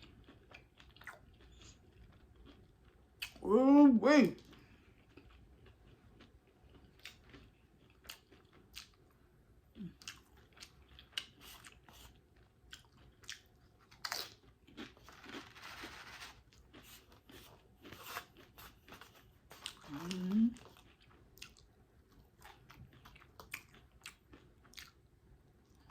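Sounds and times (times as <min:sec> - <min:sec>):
chewing and crunching food: 0:00.0 - 0:03.5, 0:04.2 - 0:25.9.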